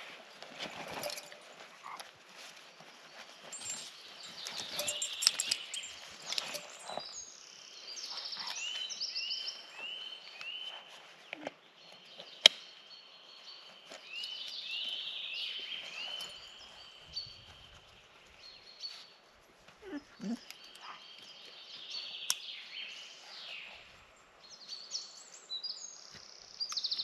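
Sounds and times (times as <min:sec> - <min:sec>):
birds chirping: 0:00.0 - 0:19.2, 0:19.8 - 0:27.0.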